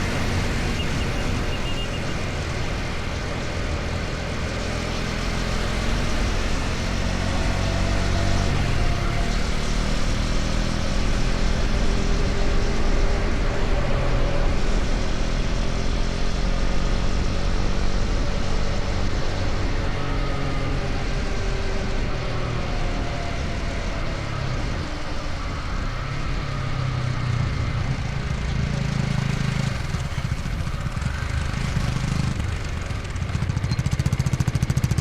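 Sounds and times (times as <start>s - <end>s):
motorcycle engine running: 0.0s - 35.0s
road noise: 0.0s - 35.0s.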